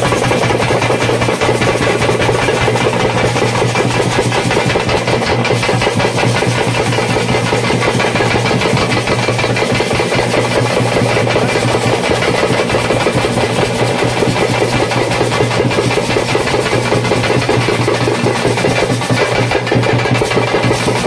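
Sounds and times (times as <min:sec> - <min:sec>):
festival music with rapid drumming: 0:00.0 - 0:21.0.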